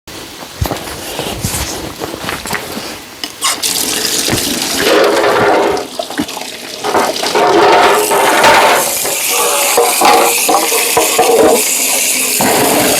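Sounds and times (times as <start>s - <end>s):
tap water running and splashing: 0.1s - 12.9s.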